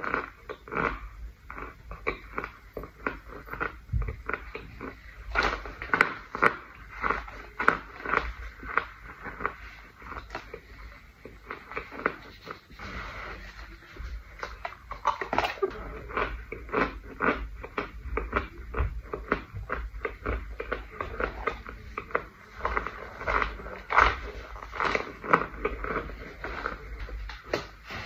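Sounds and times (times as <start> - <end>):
crunching and chewing: 0.0 - 28.0.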